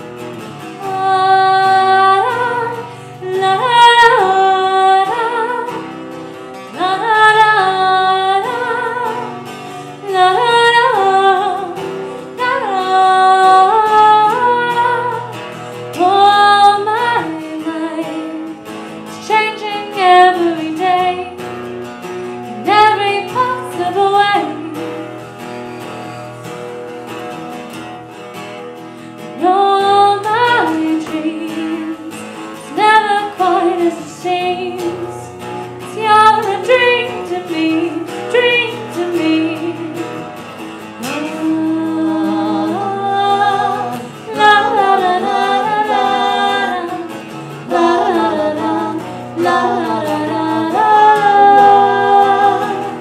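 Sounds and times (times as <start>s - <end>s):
woman singing: 0.0s - 21.5s, 22.4s - 26.3s, 29.3s - 40.3s, 41.0s - 53.0s
strummed acoustic guitar: 0.0s - 53.0s.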